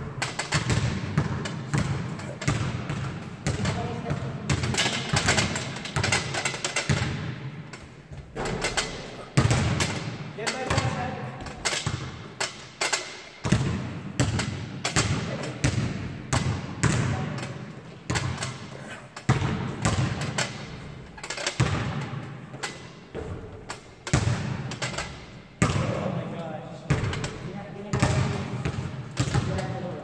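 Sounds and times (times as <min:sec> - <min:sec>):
basketball bouncing on gym floor: 0:00.0 - 0:26.1, 0:26.8 - 0:29.9.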